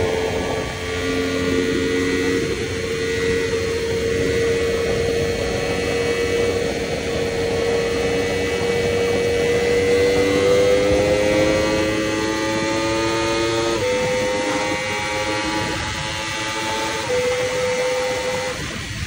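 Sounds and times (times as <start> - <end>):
heavy wind rush: 0.0 - 19.0
motorcycle engine at full speed: 0.0 - 19.0.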